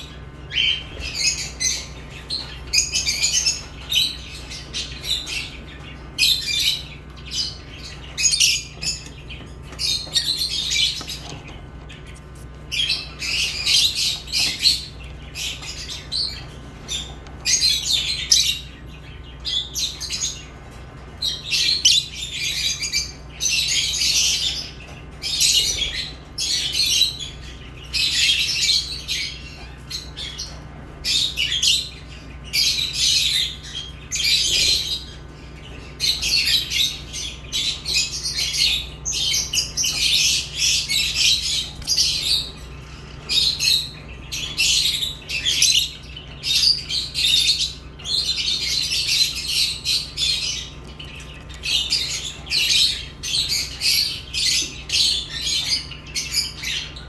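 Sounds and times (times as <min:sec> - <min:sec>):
lovebirds chirping and squawking: 0:00.0 - 0:57.0
steady low hum: 0:00.0 - 0:57.0.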